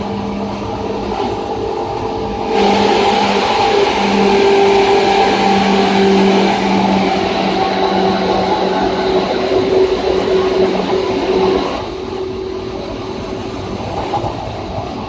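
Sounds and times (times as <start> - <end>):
train rail and running noise: 0.0 - 15.0.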